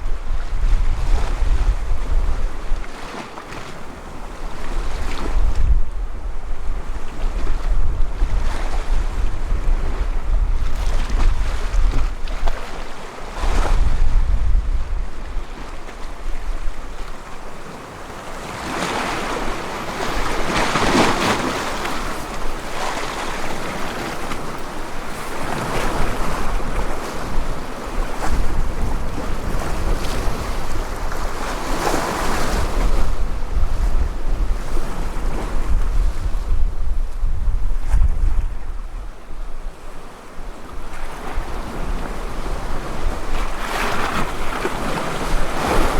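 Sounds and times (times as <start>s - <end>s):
wind buffeting microphone: 0.0s - 3.0s, 4.3s - 17.5s, 18.6s - 39.9s
sea waves washing ashore: 0.0s - 45.9s.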